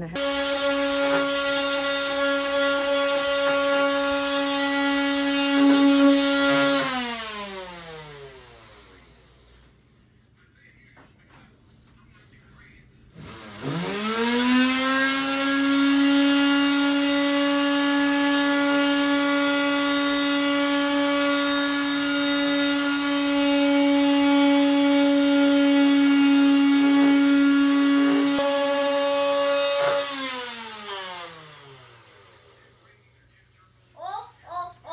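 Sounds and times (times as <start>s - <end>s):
power tool motor running: 0.1s - 9.5s, 13.2s - 32.7s.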